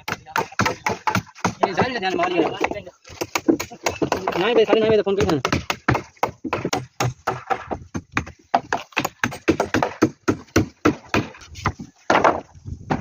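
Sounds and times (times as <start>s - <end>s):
hard objects knocking: 0.0s - 13.0s.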